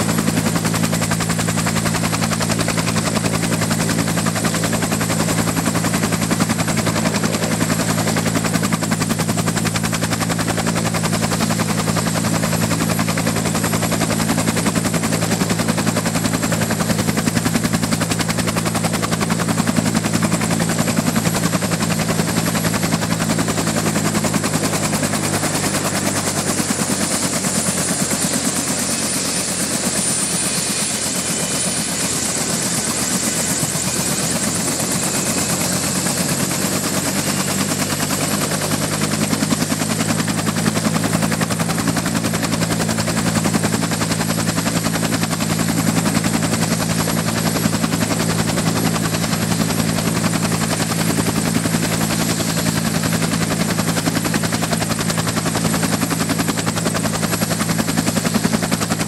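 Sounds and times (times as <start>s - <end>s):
helicopter rotor blade chop: 0.0s - 59.0s
turbine engine whine: 0.0s - 59.0s.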